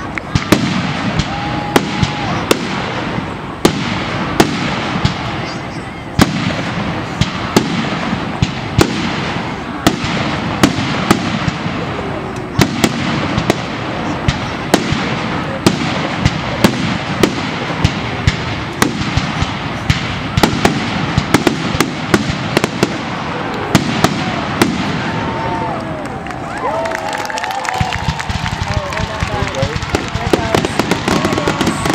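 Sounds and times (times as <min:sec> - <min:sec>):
fireworks bursting: 0:00.0 - 0:31.9
steady noisy background: 0:00.0 - 0:31.9.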